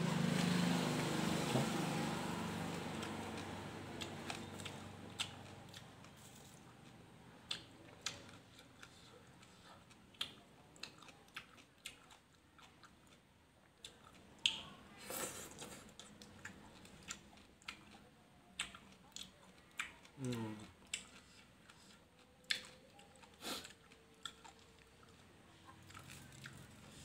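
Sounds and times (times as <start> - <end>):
chewing crunchy salad: 0.0 - 27.0.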